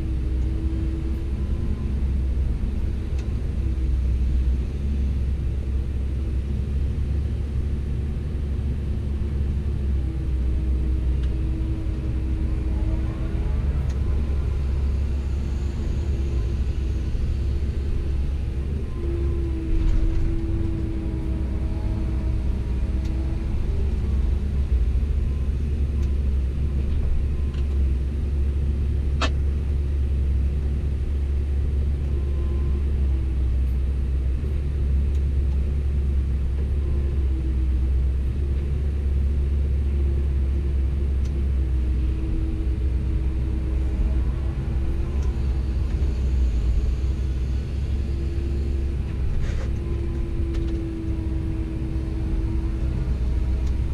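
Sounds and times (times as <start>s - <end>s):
excavator diesel engine rumbling: 0.0s - 53.9s.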